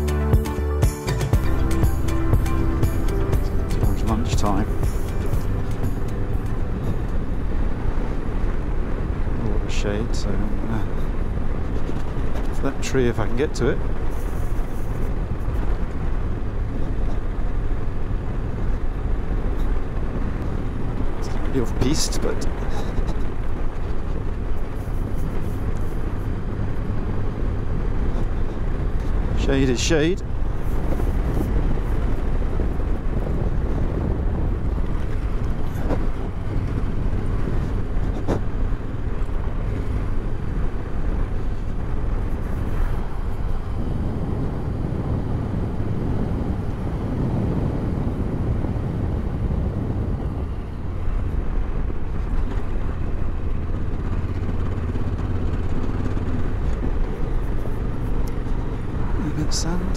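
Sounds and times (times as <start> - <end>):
motorcycle engine running: 0.0 - 9.4, 13.8 - 46.7, 48.4 - 59.9.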